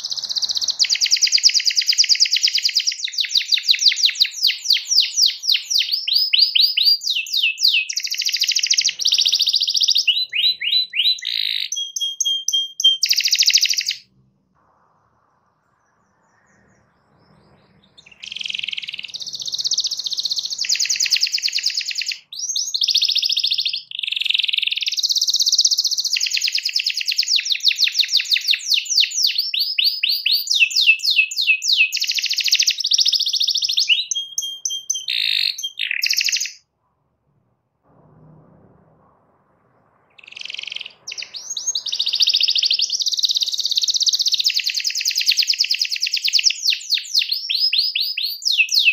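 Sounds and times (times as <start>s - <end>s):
canary singing trills: 0.0s - 14.1s, 15.1s - 36.6s, 40.1s - 48.9s.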